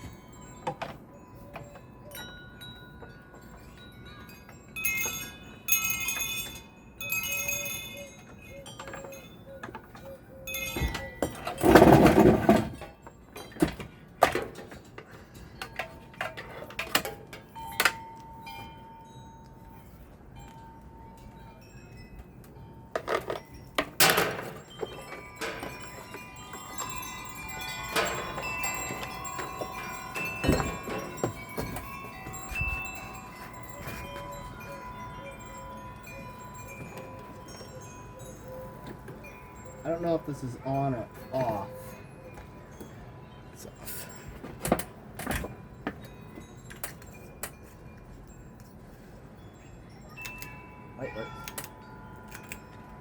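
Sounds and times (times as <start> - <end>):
metal wind chimes ringing: 0.0 - 53.0.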